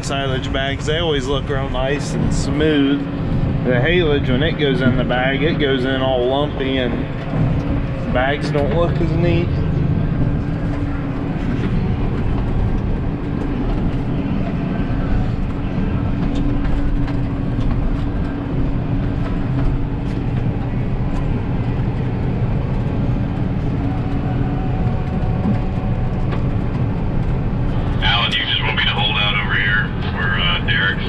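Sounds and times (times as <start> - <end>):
tractor engine drone: 0.0 - 31.0.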